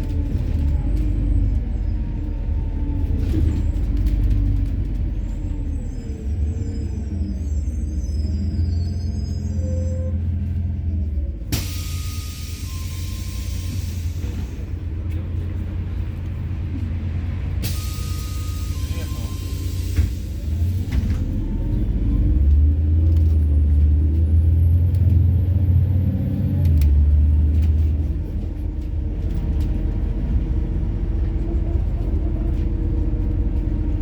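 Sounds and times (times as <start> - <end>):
bus engine accelerating: 0.0 - 34.0.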